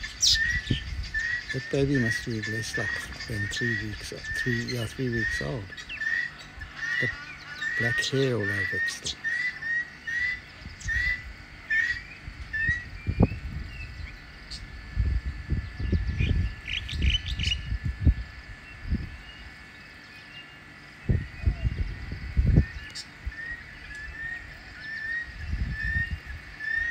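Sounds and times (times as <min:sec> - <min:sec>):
bird chirping: 0:00.0 - 0:14.7, 0:15.5 - 0:17.8, 0:18.6 - 0:26.9
higher bird chirps: 0:00.0 - 0:14.7, 0:15.5 - 0:17.8, 0:18.5 - 0:26.9.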